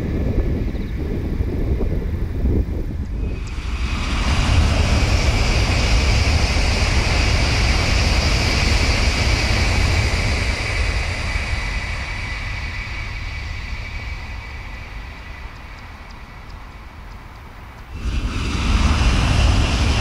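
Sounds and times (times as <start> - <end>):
train passing at high speed: 0.0 - 20.0.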